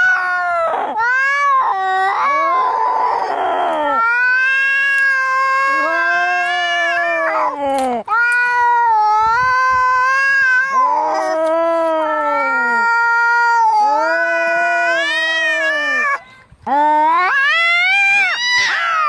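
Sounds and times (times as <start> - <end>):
cats yowling in a fight: 0.0 - 16.2, 17.1 - 19.0.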